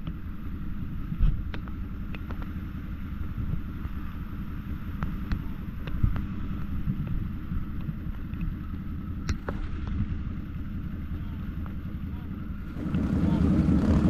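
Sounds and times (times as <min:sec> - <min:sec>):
quad bike engine running: 0:00.0 - 0:14.0
wind rumbling on microphone: 0:00.0 - 0:14.0.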